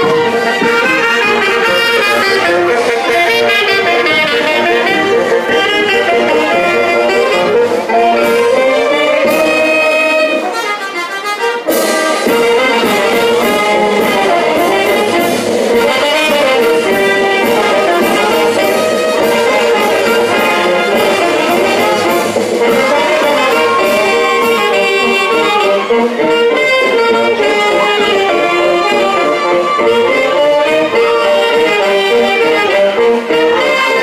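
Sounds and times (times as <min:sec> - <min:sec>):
brass band playing dance music: 0:00.0 - 0:34.0.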